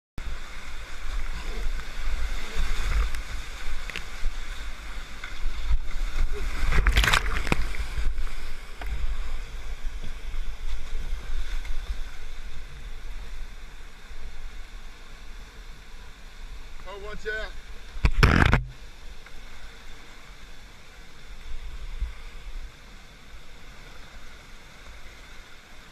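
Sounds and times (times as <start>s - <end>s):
water buffeting microphone: 0.2s - 25.9s
whitewater rushing and churning: 0.2s - 25.9s.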